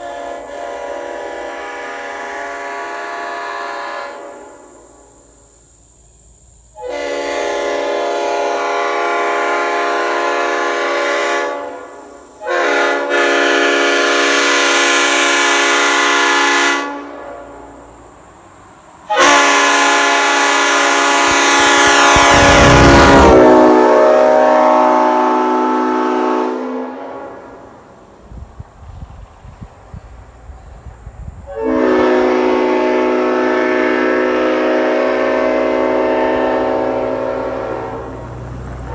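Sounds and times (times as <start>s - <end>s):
locomotive air horn blasts: 0.0s - 5.1s, 6.7s - 17.8s, 19.1s - 27.8s, 31.5s - 38.9s.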